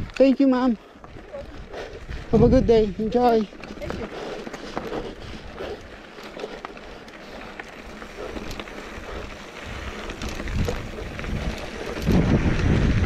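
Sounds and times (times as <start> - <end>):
wind rumble on microphone: 0.0 - 0.2, 1.0 - 6.0, 6.9 - 13.0
bike clicks and rattles: 0.0 - 13.0
bike tyres on dirt and rock: 0.0 - 13.0.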